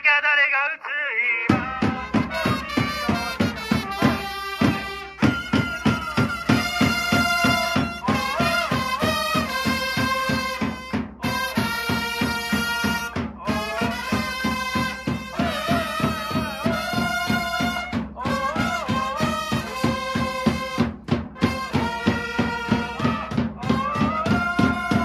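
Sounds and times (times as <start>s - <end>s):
person chanting through a megaphone: 0.0s - 25.0s
large drum beat: 1.5s - 25.0s
trumpets playing melody: 1.6s - 25.0s.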